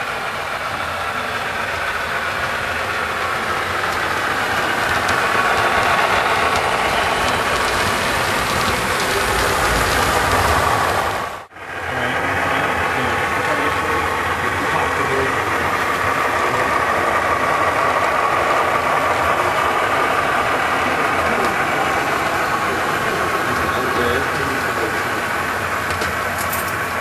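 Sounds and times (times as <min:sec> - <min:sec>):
model locomotives diesel drone: 0:00.0 - 0:27.0.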